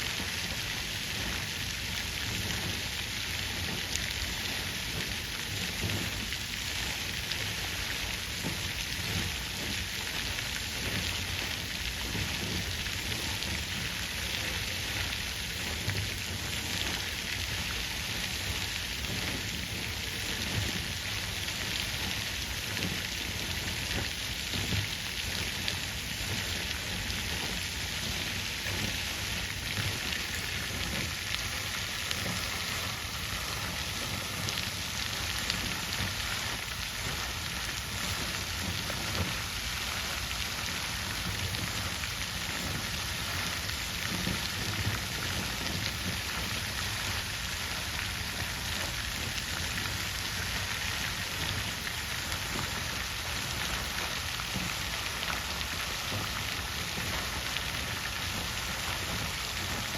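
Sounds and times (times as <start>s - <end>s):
water fountain splashing: 0.0s - 59.9s.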